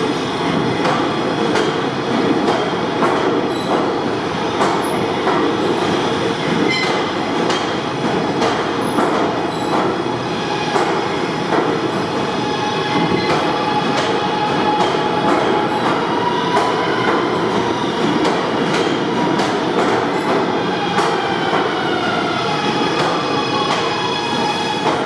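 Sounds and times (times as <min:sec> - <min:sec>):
subway train rumbling: 0:00.0 - 0:25.0.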